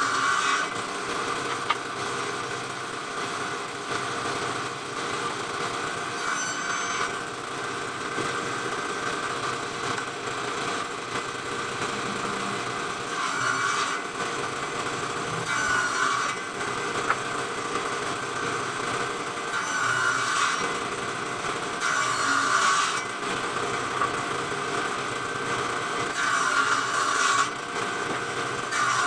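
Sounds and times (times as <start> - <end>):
circular saw cutting wood: 0.0 - 29.0.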